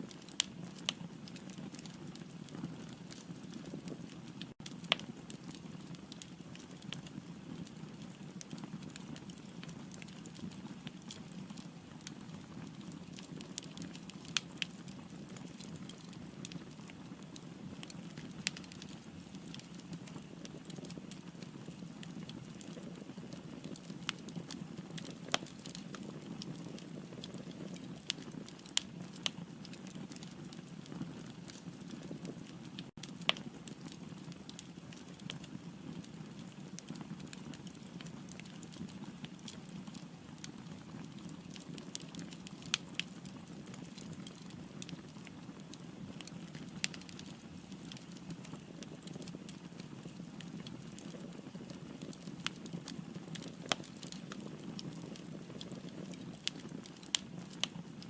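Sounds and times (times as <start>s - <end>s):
wood crackling and popping: 0.0s - 58.0s.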